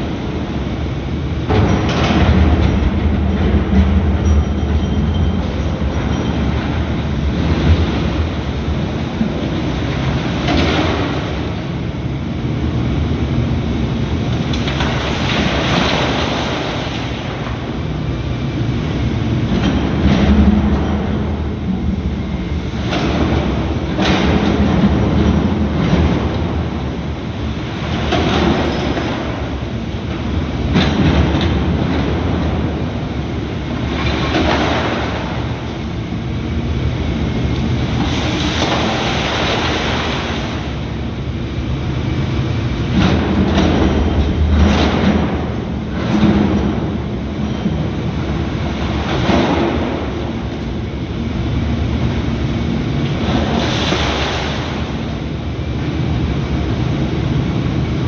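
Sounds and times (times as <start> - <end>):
excavator diesel engine rumbling: 0.0 - 58.0.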